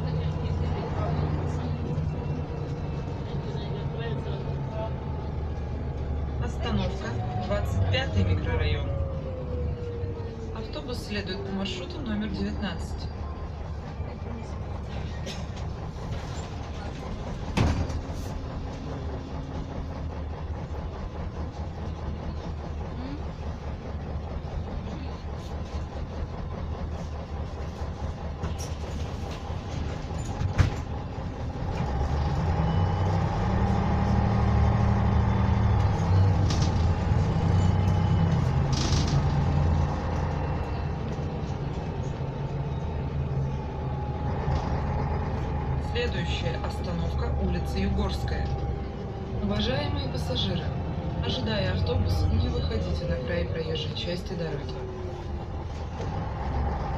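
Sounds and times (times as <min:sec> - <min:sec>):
bus diesel engine: 0:00.0 - 0:56.9.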